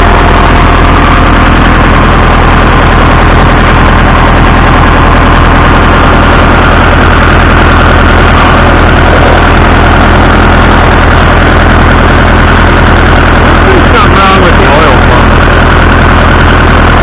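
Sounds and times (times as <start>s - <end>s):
engine knocking: 0.0s - 17.0s
tractor engine running: 0.0s - 17.0s.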